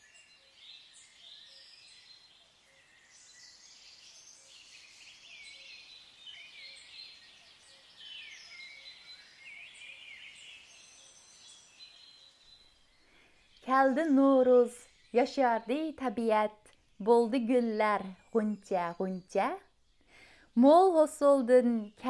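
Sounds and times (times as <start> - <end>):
songbirds chirping faintly: 0.0 - 22.0.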